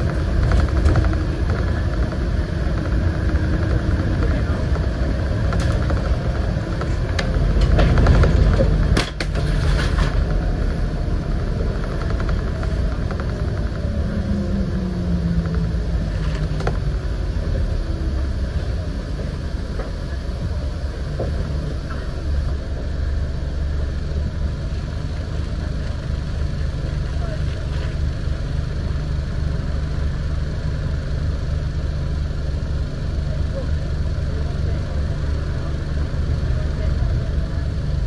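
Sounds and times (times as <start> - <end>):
diesel bus engine rumble: 0.0 - 38.0
road noise: 0.0 - 38.0.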